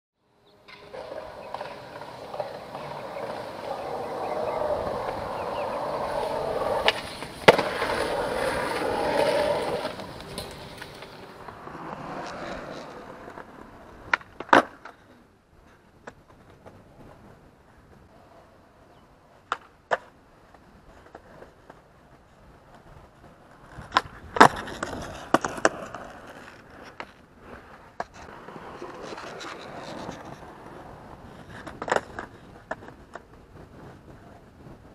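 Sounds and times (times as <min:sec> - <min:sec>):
skateboard wheels rolling on pavement: 0:00.2 - 0:34.9
skateboard clacks: 0:00.6 - 0:17.2, 0:19.4 - 0:21.9, 0:22.6 - 0:34.9.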